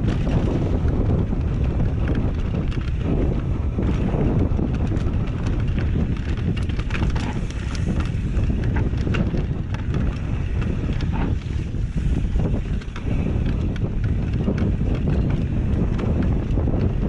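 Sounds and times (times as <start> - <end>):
bike clicks and rattles: 0.0 - 17.0
bike tyres rolling on dirt: 0.0 - 17.0
wind buffeting microphone: 0.0 - 17.0.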